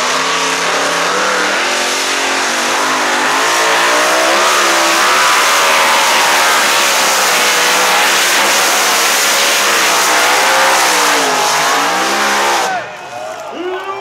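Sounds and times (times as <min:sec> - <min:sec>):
tractor engines running hard: 0:00.0 - 0:13.5.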